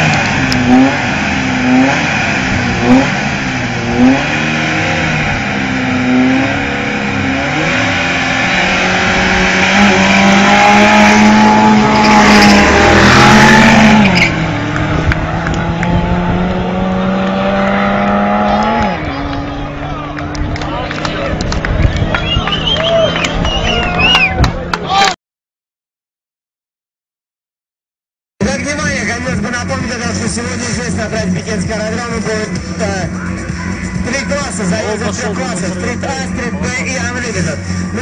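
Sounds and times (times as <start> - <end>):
drag car engines revving: 0.0 - 24.8, 28.4 - 38.0.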